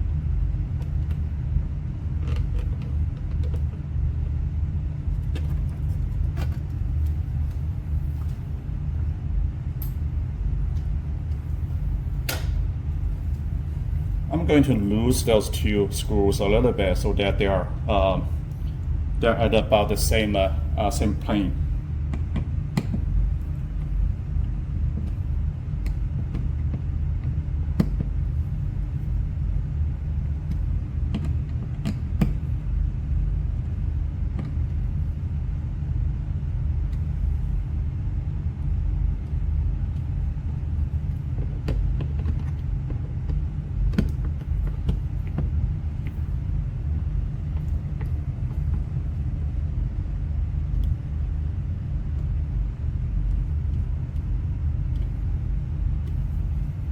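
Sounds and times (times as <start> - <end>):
fan low rumble: 0.0 - 56.9.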